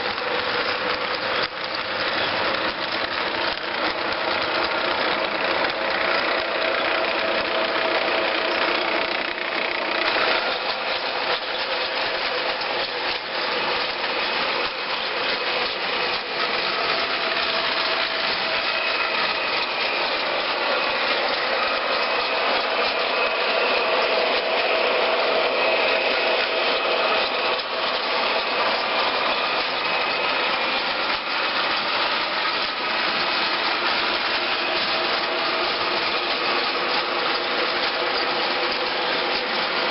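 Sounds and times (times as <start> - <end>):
model train motor whirring: 0.0 - 39.9
wheels ticking on track: 0.0 - 39.9.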